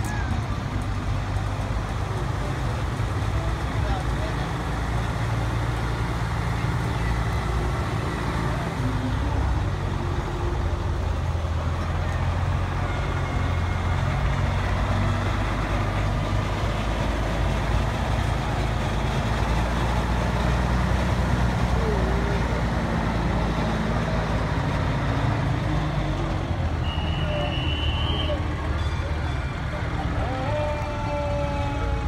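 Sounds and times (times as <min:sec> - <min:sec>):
fire engine rumbling past: 0:00.0 - 0:32.0.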